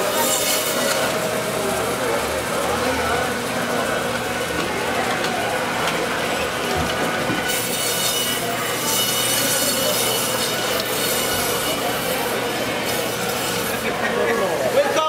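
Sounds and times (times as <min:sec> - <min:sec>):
band saw cutting meat and bone: 0:00.0 - 0:05.4, 0:07.0 - 0:14.6.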